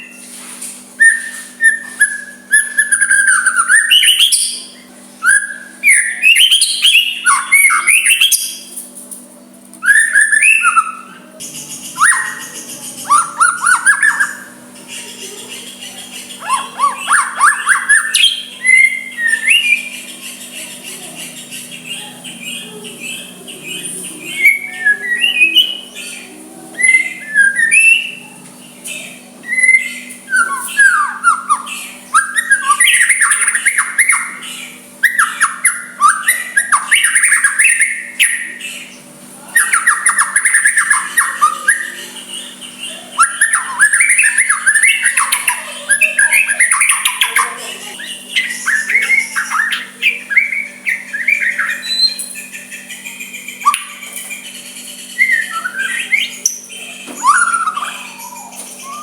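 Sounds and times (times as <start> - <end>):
songbird singing whistled phrases: 1.0 - 8.7, 9.8 - 59.0.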